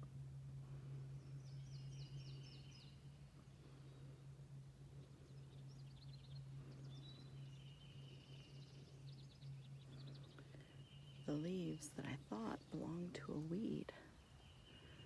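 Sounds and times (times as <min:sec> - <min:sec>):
steady low hum: 0:00.0 - 0:15.0
songbirds chirping and trilling: 0:00.3 - 0:15.0.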